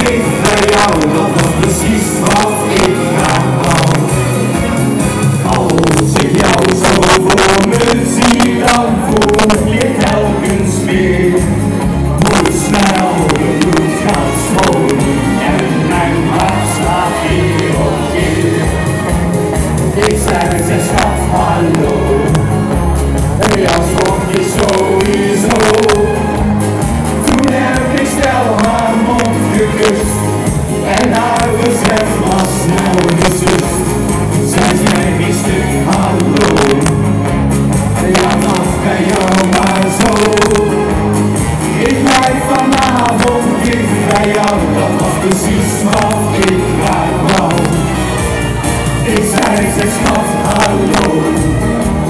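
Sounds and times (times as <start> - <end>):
men singing into microphones: 0.0 - 37.2, 37.9 - 52.0
loud party music over pa: 0.0 - 52.0.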